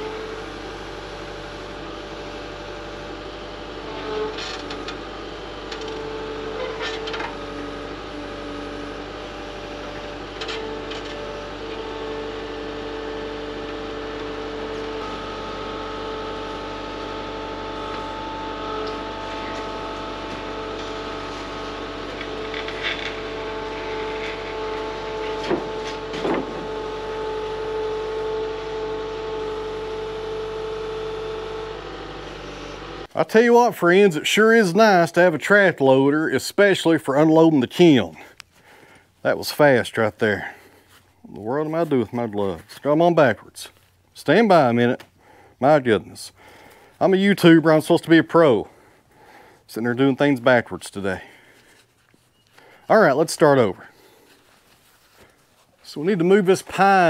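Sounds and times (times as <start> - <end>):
track loader engine whining: 0.0 - 57.0.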